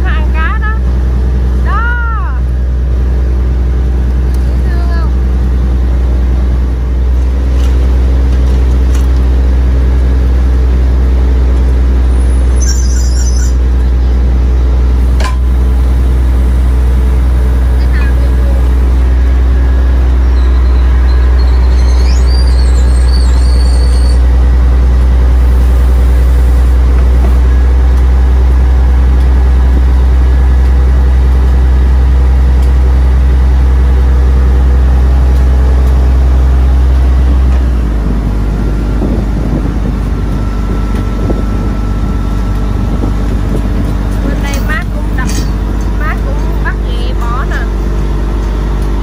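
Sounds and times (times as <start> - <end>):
motor vehicle rumble: 0.0 - 49.0.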